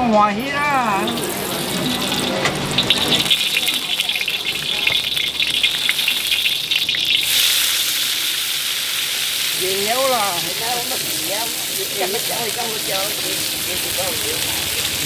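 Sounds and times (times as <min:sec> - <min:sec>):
noodles sizzling in a wok: 0:01.0 - 0:15.0.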